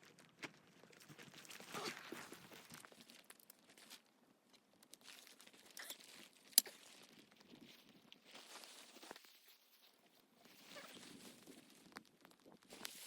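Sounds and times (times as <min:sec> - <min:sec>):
crunching and crinkling handling: 0:00.0 - 0:13.0.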